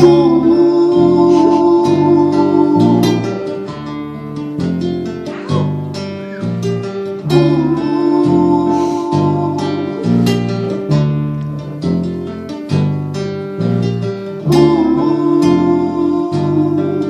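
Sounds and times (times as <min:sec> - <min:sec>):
bass line: 0:00.0 - 0:17.0
plucked and strummed strings: 0:00.0 - 0:17.0.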